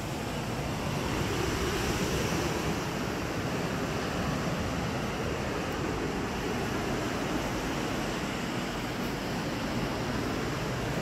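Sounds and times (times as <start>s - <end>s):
sea surf washing onto beach: 0.0s - 11.0s.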